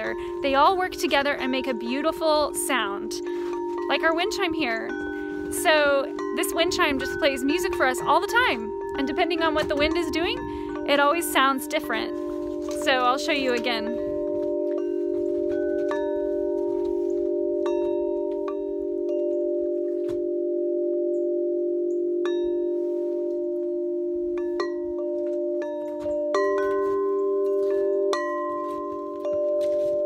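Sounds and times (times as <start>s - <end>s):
large wind chime ringing: 0.0s - 30.0s.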